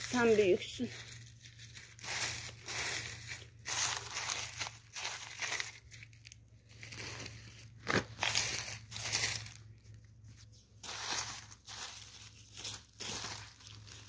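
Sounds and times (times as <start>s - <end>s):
onion skins rustling and crinkling: 0.0s - 14.0s.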